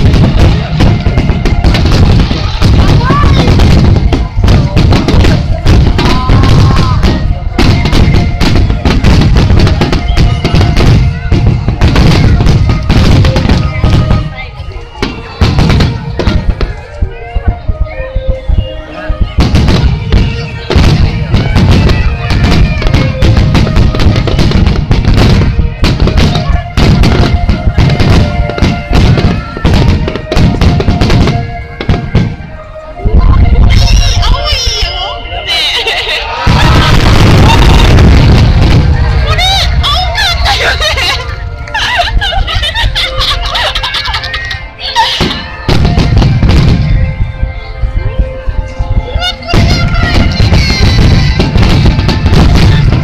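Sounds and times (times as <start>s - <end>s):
fireworks booming and crackling: 0.0s - 53.0s
music with sustained notes: 0.0s - 53.0s.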